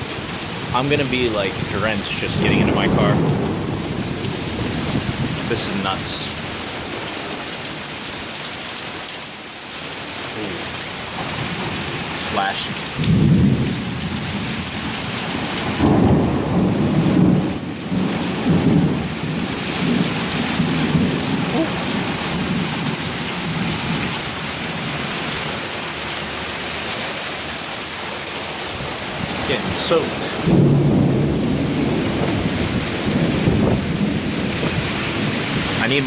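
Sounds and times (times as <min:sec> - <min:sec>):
thunder rumbling: 0:00.0 - 0:07.4, 0:11.1 - 0:25.5, 0:28.6 - 0:36.0
heavy rain pouring: 0:00.0 - 0:36.0.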